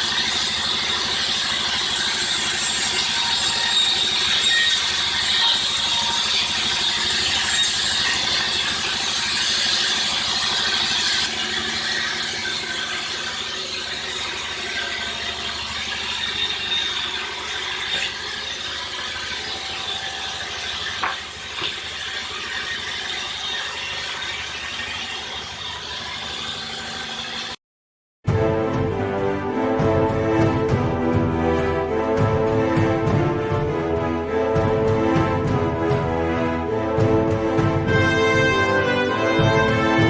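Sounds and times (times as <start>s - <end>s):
sawmill machinery running: 0.0s - 27.6s, 28.3s - 40.0s.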